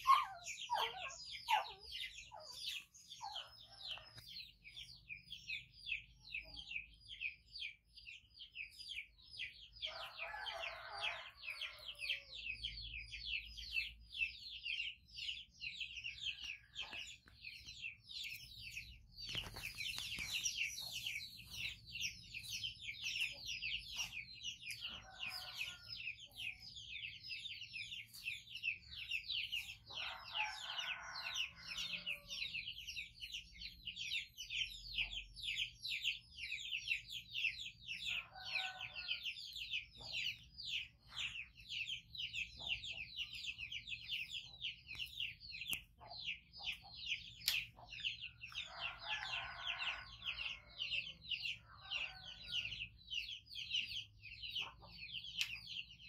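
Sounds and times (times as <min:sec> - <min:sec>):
birds chirping: 0:00.0 - 0:56.0
low clucking bird calls: 0:00.0 - 0:56.0.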